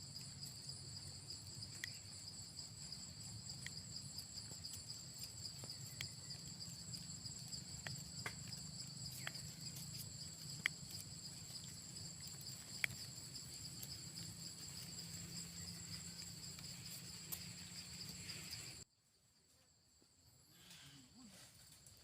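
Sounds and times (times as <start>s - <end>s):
insects trilling: 0.0s - 18.9s, 20.2s - 22.0s.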